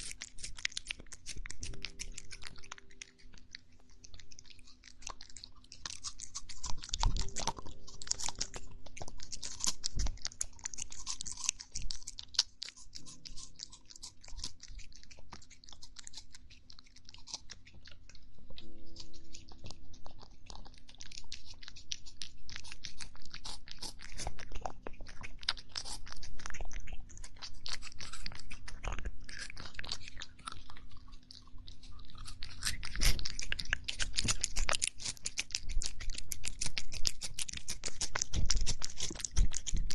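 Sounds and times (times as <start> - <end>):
cat crunching food: 0.0 - 39.9.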